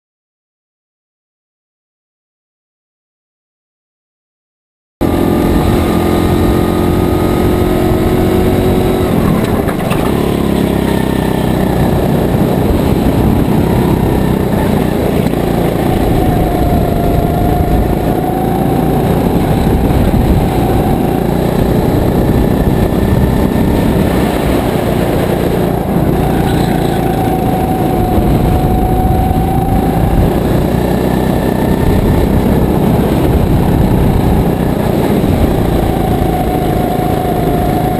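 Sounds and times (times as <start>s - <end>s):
kart engine revving: 5.0s - 37.9s
wind and road noise: 5.0s - 37.9s.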